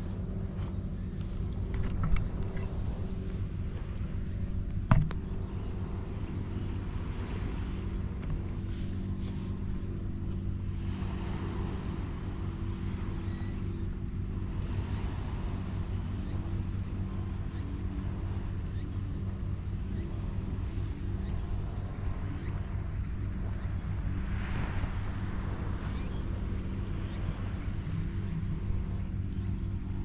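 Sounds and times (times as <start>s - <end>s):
low engine-like hum: 0.0s - 30.0s.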